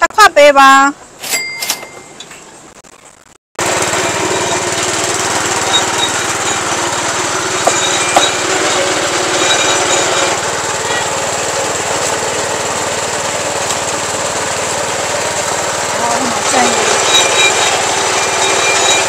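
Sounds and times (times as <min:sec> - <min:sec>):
small engine chugging: 0:03.6 - 0:19.0.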